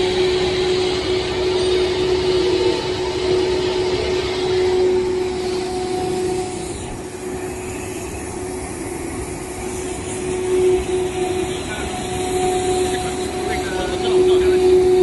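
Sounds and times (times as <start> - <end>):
constant machine hum: 0.0 - 15.0
production machine running: 0.0 - 15.0.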